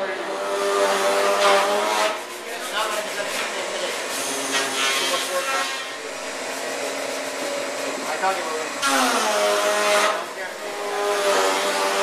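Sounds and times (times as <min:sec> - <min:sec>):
table saw cutting wood: 0:00.0 - 0:12.0.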